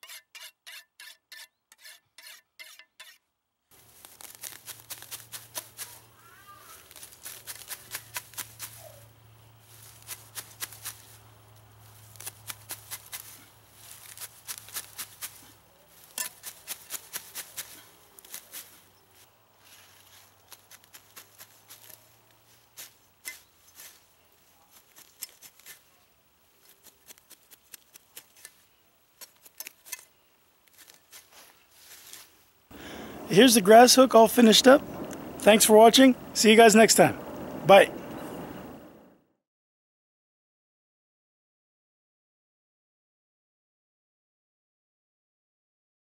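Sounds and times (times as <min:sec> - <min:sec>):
sickle cutting grass: 0:00.0 - 0:37.1.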